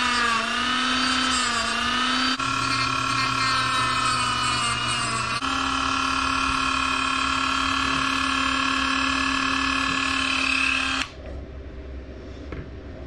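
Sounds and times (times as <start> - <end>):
rotary tool whining: 0.0 - 11.2.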